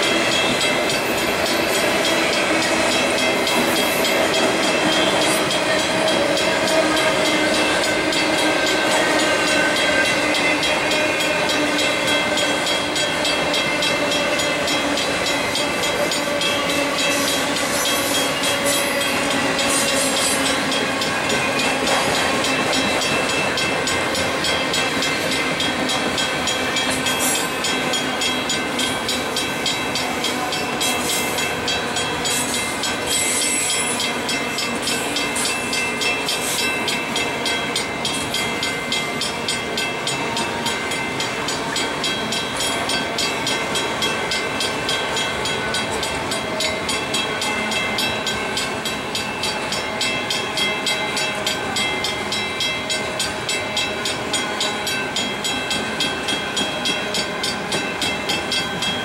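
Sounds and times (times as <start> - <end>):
clickety-clack over rail joints: 0.0 - 59.0
train wheels on rails: 0.0 - 59.0.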